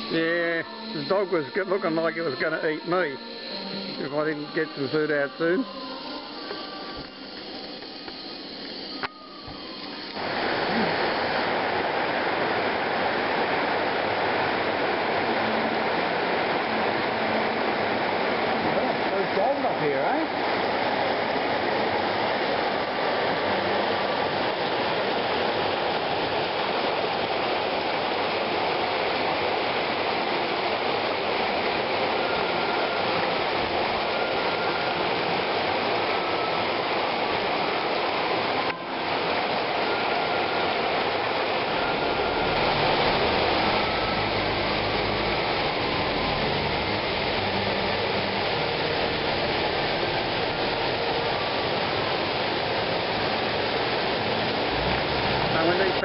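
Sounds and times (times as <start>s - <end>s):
water rushing over weir: 0.0s - 56.0s.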